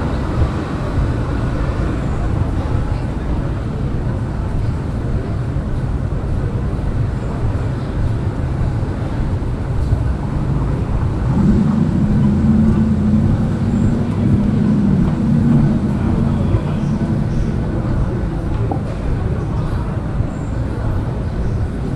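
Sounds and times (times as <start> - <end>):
city street traffic rumble: 0.0 - 21.9
low engine hum: 0.0 - 21.9.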